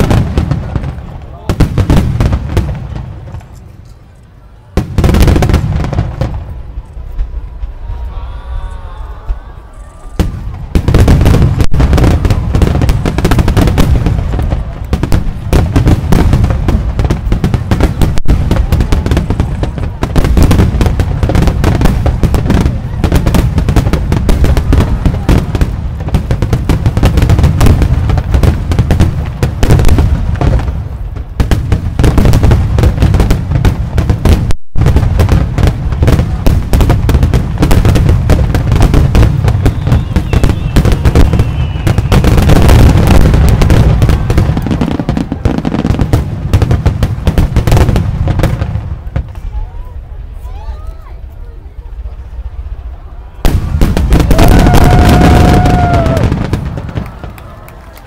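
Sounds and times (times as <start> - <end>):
firework crackles: 0.0 - 58.0.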